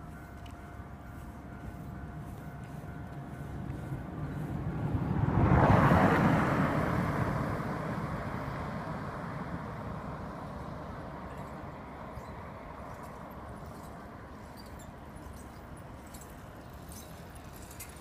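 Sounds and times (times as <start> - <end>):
train passing: 0.0 - 18.0
wheels rumbling and hissing: 0.0 - 18.0.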